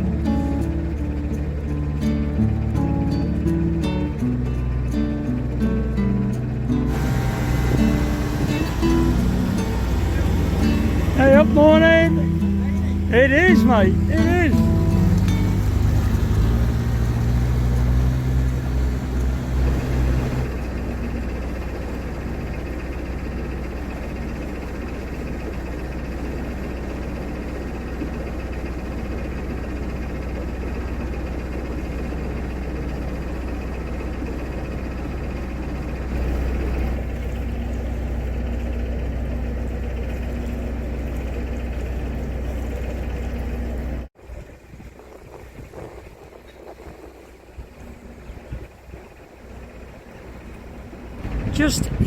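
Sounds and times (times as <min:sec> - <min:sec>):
boat diesel engine running: 0:00.0 - 0:52.0.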